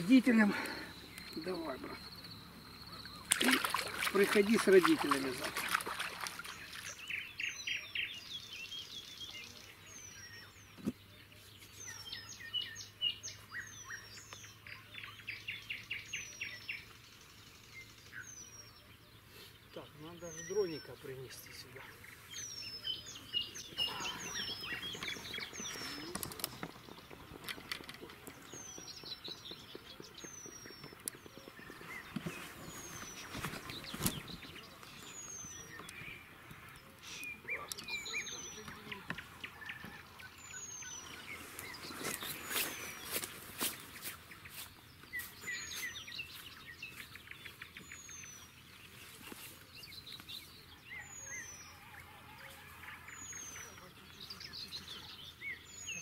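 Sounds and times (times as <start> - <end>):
songbirds whistling and chirping: 0.0 - 4.1, 4.8 - 56.0.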